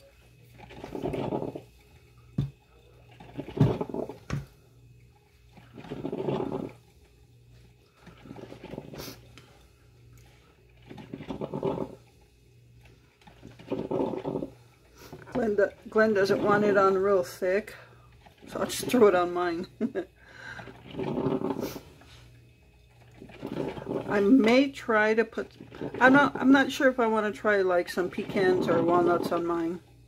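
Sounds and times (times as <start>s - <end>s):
coffee maker brewing: 0.0s - 30.0s.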